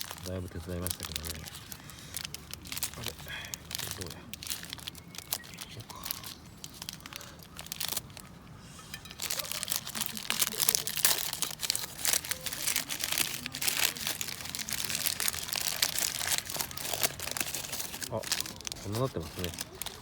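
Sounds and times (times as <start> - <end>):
cling wrap crinkling: 0.0 - 20.0.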